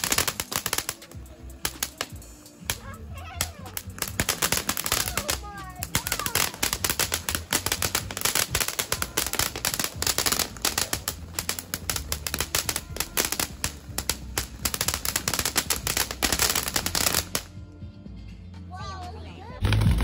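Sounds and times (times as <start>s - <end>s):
fireworks crackling and popping: 0.0s - 17.6s, 19.6s - 20.0s.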